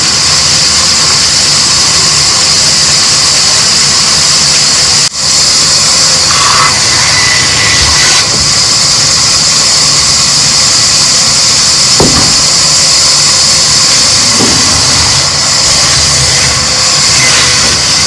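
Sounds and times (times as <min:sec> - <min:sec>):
loud machine hissing and rumbling: 0:00.0 - 0:18.0.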